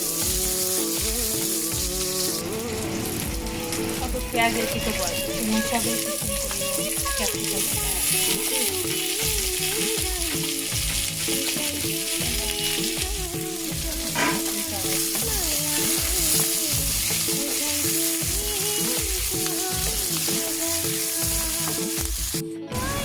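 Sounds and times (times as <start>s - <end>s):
background music with steady beat: 0.0s - 23.0s
vegetables sizzling in hot oil: 0.0s - 23.0s.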